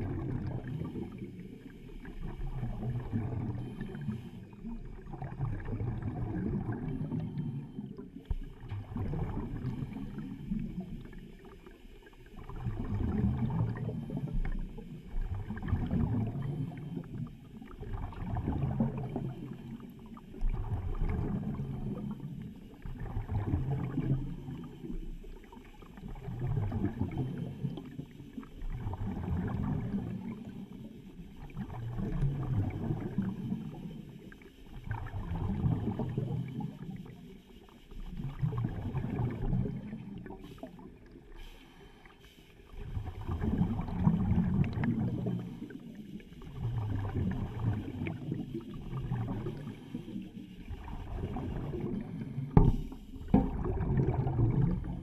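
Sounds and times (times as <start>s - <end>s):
underwater bubbles gurgling: 0.0s - 55.0s.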